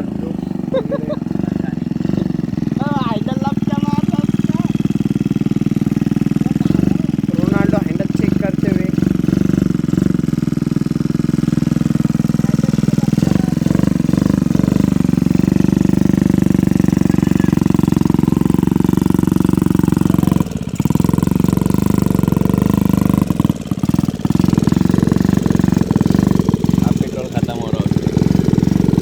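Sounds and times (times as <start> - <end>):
scooter engine running: 0.0 - 29.0.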